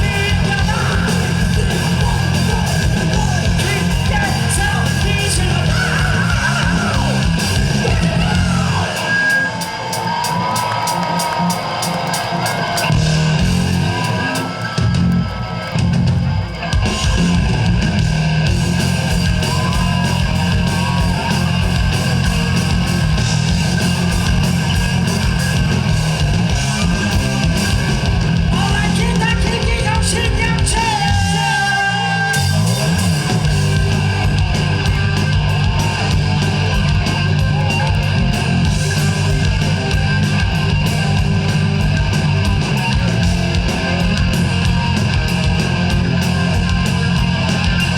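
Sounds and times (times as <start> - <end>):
bass: 0.0 - 47.9
drums: 0.0 - 47.9
loud electric guitars: 0.0 - 47.9.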